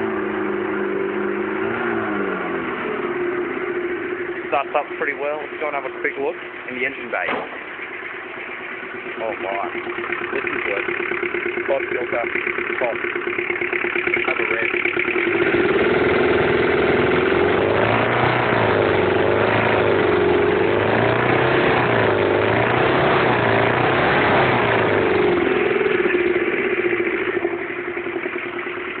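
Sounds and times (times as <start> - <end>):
diesel engine idling and revving: 0.0 - 29.0.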